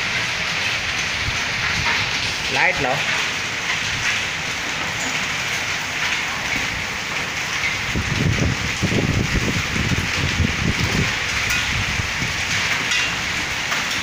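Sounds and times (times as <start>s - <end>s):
heavy rain and hail: 0.0s - 14.0s.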